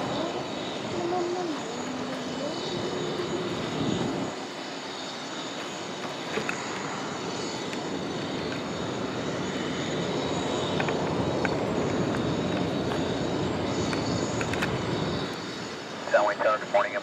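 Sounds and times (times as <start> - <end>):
aircraft engines whining: 0.0 - 17.0.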